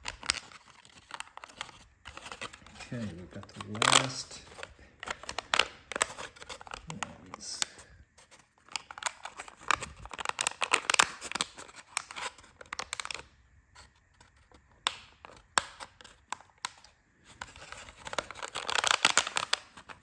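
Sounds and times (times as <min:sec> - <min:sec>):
plastic strips crackling and clicking: 0:00.0 - 0:20.0.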